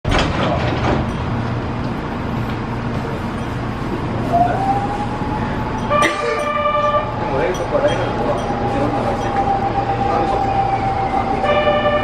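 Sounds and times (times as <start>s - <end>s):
train rumbling: 0.1s - 12.0s.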